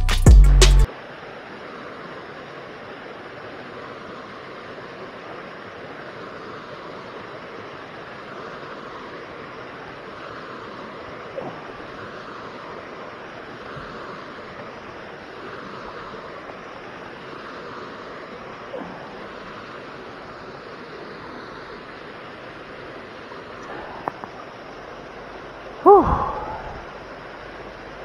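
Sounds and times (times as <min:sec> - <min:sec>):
water rushing: 0:00.9 - 0:28.0.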